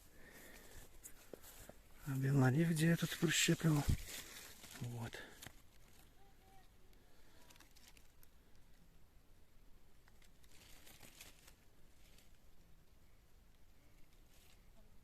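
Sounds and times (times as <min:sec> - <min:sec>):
faint rustling: 0:00.0 - 0:08.9, 0:10.0 - 0:15.0.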